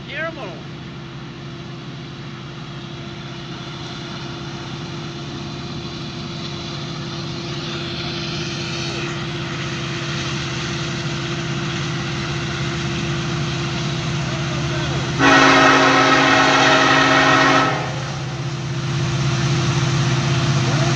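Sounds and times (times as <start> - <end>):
locomotive engine drone: 0.0 - 20.9.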